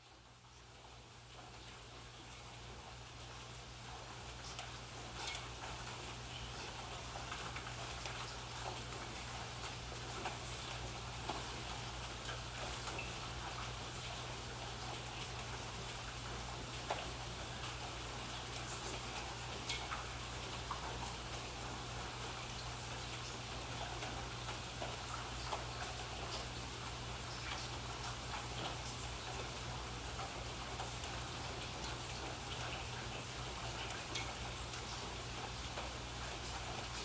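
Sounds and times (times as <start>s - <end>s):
steady rain falling: 0.1s - 37.0s.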